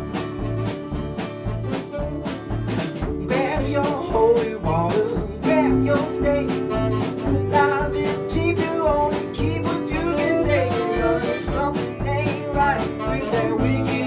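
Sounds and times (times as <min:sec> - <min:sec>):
song with guitar and singing: 0:00.0 - 0:14.0.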